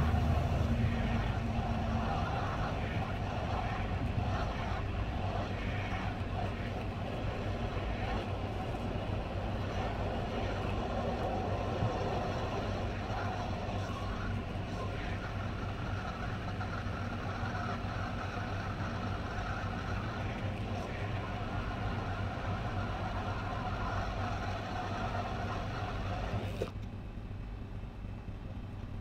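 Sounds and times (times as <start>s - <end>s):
hot air blower hissing: 0.0s - 26.7s
low hum: 0.0s - 29.0s.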